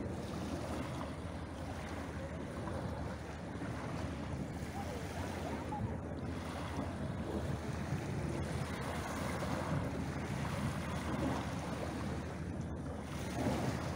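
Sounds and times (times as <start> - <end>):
waves on a pebble beach: 0.0 - 12.4, 13.0 - 13.9
wind noise on microphone: 0.0 - 13.9.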